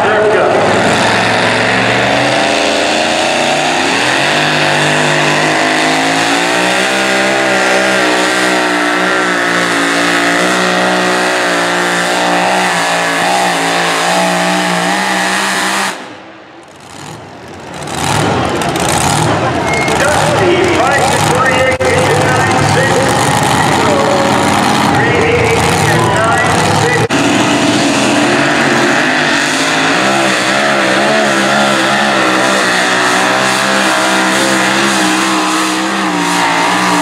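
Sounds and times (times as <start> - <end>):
truck engine at full throttle: 0.0 - 37.0.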